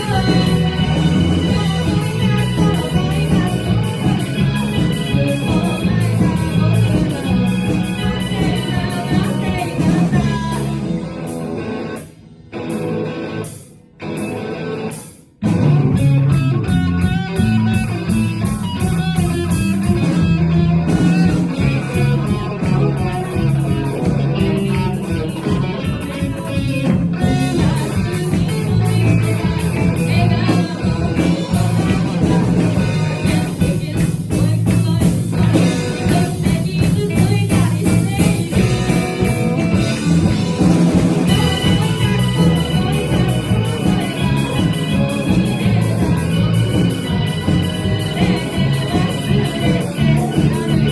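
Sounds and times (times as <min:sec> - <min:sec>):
person singing: 0:00.0 - 0:12.0, 0:16.6 - 0:50.9
live rock band: 0:00.0 - 0:50.9.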